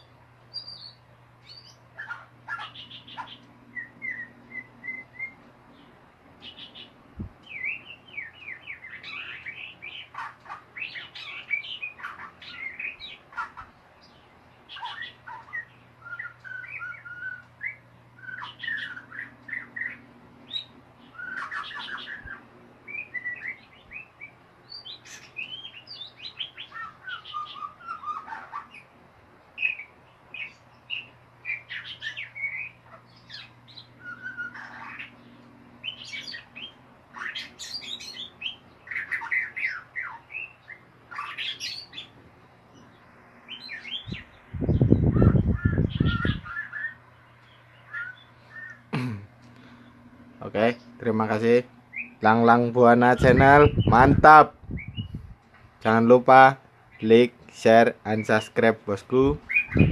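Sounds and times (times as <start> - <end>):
bird singing chattering and whistles: 0.0 - 28.9, 29.6 - 42.2, 42.8 - 48.9, 50.4 - 59.9
faint low hum: 0.0 - 59.9.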